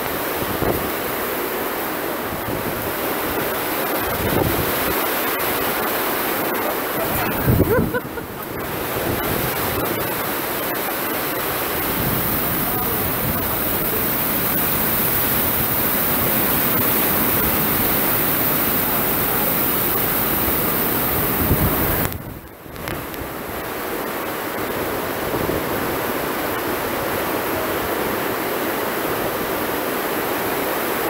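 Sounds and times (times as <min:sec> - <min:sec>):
heavy rain on metal roof: 0:00.0 - 0:31.0.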